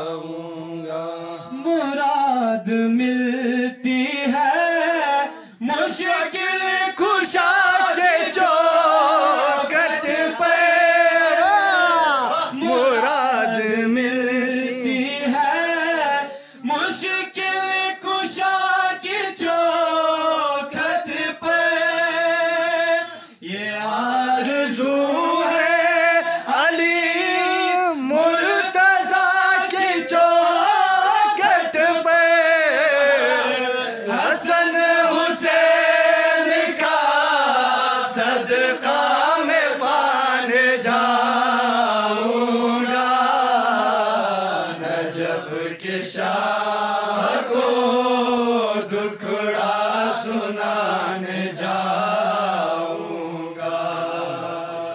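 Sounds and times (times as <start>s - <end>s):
man singing into a microphone: 0.0s - 52.4s.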